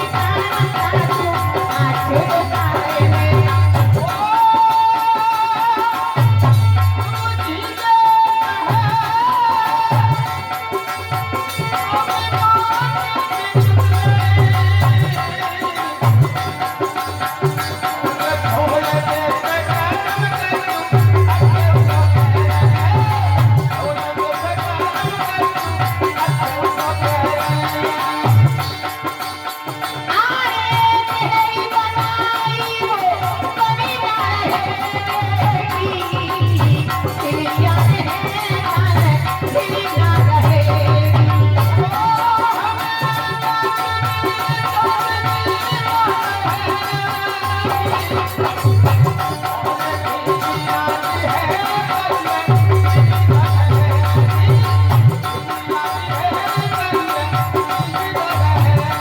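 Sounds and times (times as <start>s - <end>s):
rattling percussion: 0.0s - 59.0s.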